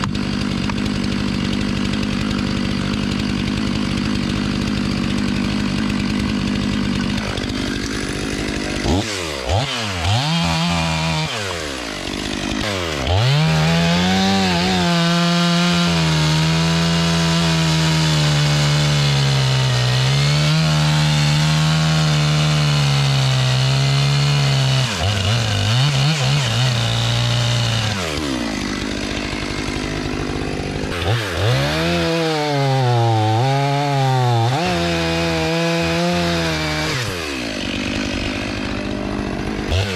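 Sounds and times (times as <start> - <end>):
chainsaw cutting through log: 0.0 - 39.9
chainsaw revving: 0.0 - 39.9.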